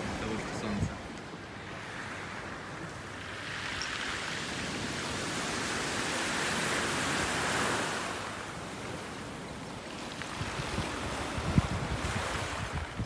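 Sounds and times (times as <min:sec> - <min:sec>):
waves washing on pebble beach: 0:00.0 - 0:13.0.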